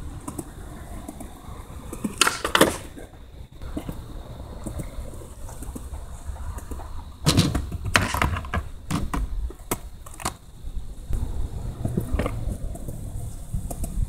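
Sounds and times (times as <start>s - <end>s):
skateboard wheels rolling on concrete: 0.0s - 14.0s
skateboard clacks and knocks: 0.1s - 10.4s, 11.7s - 14.0s.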